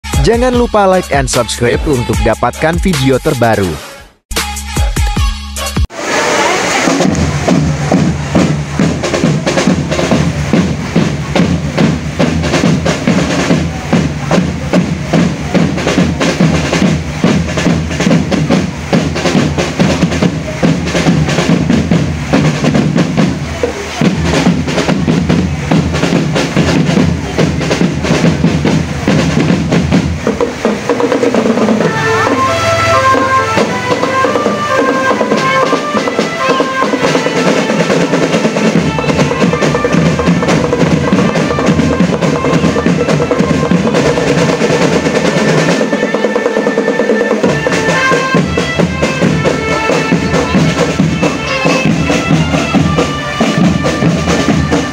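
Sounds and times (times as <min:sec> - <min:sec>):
marching drum band: 0:00.0 - 0:03.8, 0:05.9 - 0:54.9.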